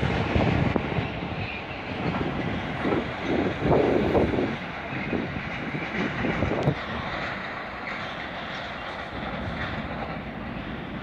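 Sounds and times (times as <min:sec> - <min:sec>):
train wagons rumbling on rails: 0:00.0 - 0:11.0.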